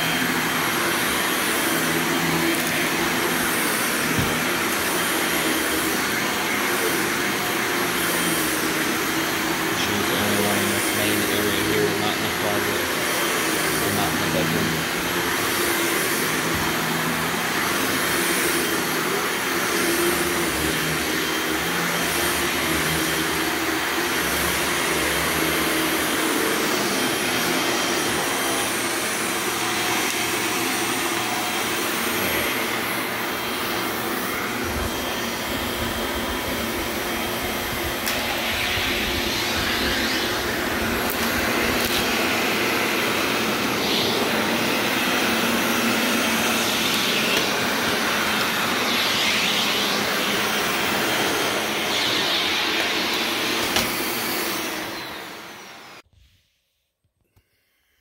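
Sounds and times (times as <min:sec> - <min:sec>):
carpet cleaning machine vacuum: 0:00.0 - 0:56.3.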